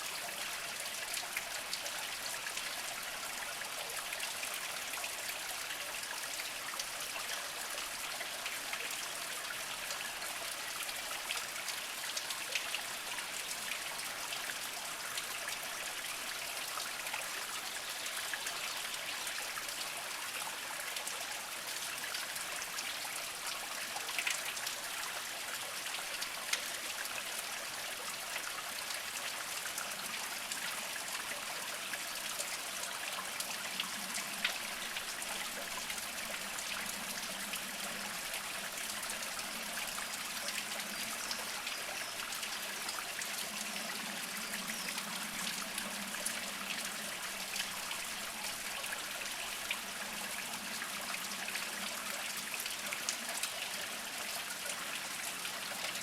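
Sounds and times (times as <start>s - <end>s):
spring water trickling over rocks: 0.0s - 56.0s.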